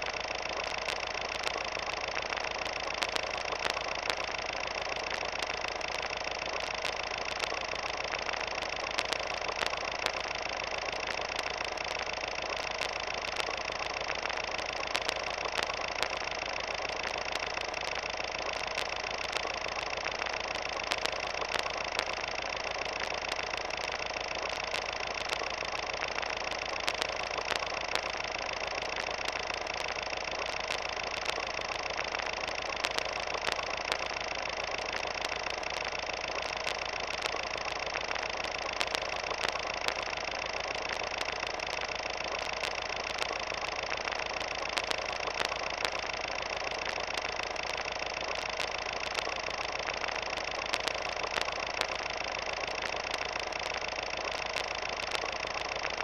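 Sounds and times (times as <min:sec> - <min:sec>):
film crackling clicks: 0:00.0 - 0:56.0
film projector whirring: 0:00.0 - 0:56.0.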